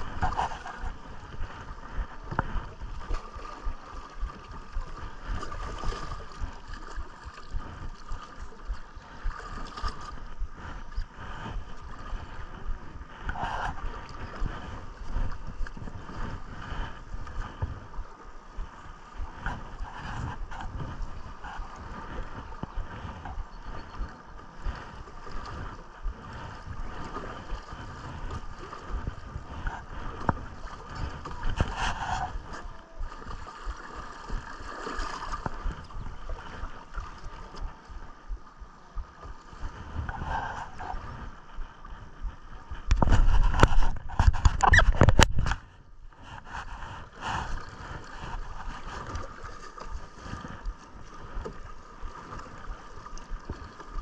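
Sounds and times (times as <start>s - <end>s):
water gurgling and splashing: 0.0s - 45.6s, 46.2s - 54.0s.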